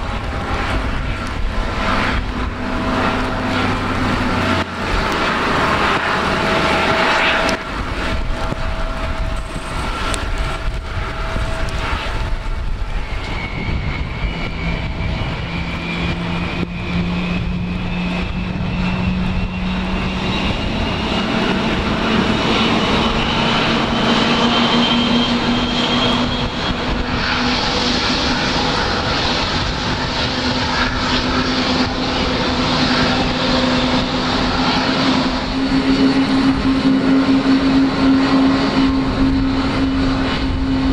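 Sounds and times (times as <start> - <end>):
jet engine rumble: 0.0 - 40.9
jet engine whine rising: 0.0 - 40.9.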